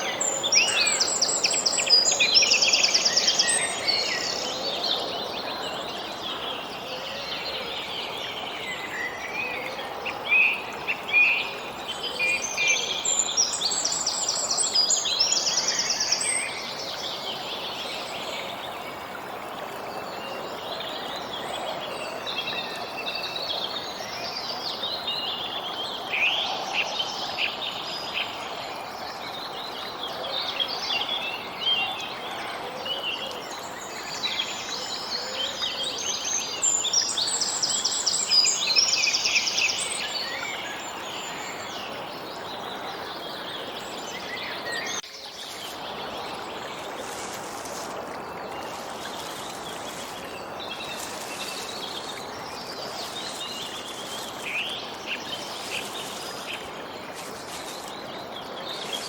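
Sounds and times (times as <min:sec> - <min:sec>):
outdoor background hiss: 0:00.0 - 0:59.0
songbirds chirping: 0:00.0 - 0:59.0.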